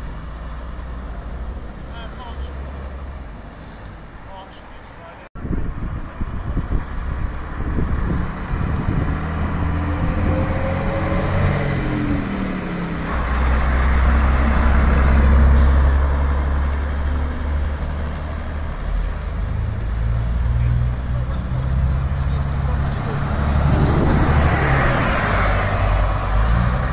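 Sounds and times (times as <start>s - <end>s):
bus diesel engine: 0.0s - 26.9s.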